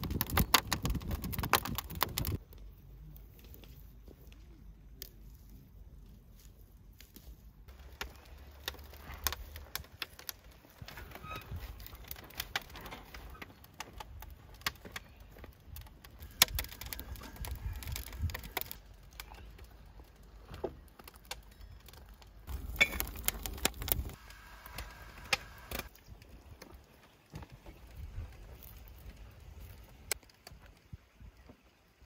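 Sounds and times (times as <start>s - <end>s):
small crackles and rustling: 0.0s - 32.0s.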